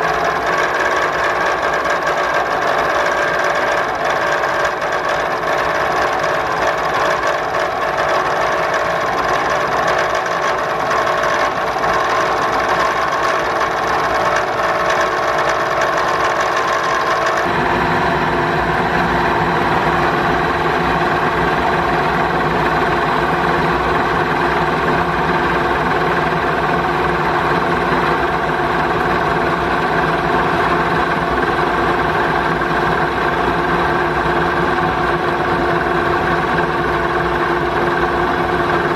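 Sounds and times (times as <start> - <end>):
milling machine cutting steel: 0.0 - 38.9.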